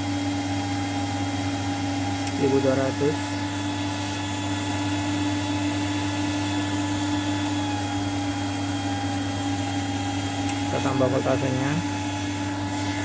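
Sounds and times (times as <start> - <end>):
cooling fans whirring: 0.0 - 13.0
electrical hum: 0.0 - 13.0.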